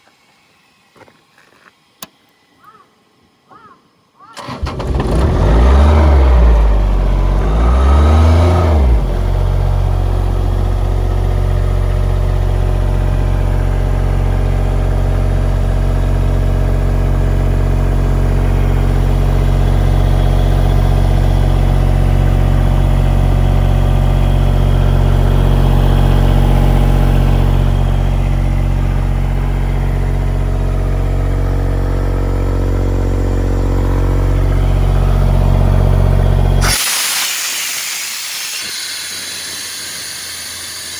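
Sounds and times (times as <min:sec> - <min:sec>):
diesel air compressor running: 0:04.3 - 0:40.9.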